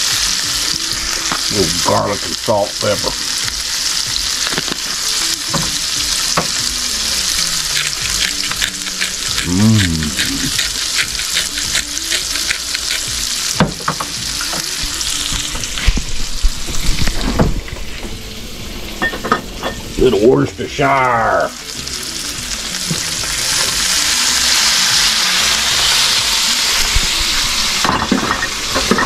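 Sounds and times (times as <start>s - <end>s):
peppers sizzling in a skillet: 0.0s - 29.0s.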